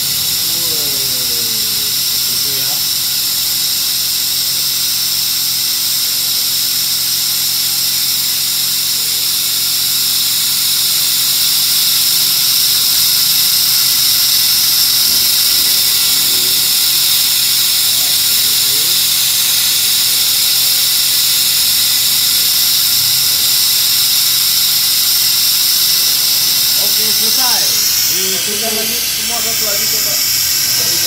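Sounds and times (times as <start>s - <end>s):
electric suction pump whining: 0.0s - 31.0s.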